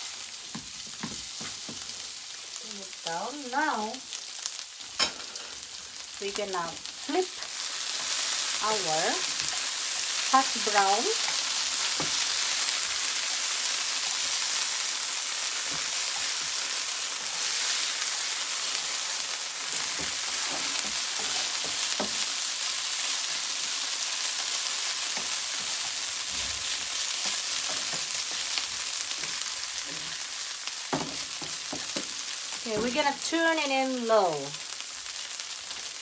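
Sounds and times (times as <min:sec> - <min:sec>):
food sizzling in a frying pan: 0:00.0 - 0:36.0.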